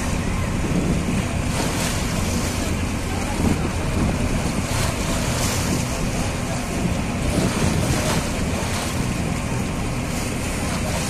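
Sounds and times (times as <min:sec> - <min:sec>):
choppy river water rushing: 0:00.0 - 0:11.0
low steady drone: 0:00.0 - 0:11.0
wind buffeting microphone: 0:00.0 - 0:11.0.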